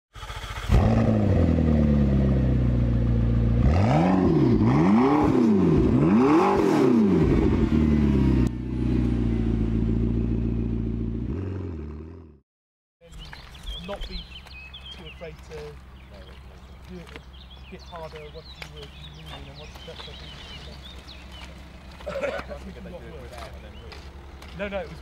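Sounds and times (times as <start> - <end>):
car engine idling and revving: 0.1 - 12.4, 14.8 - 25.0.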